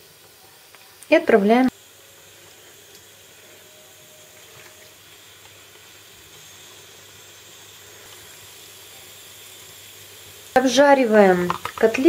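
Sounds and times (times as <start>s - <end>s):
cutlets sizzling in hot oil: 0.0s - 12.0s
small crackles of frying: 0.0s - 12.0s.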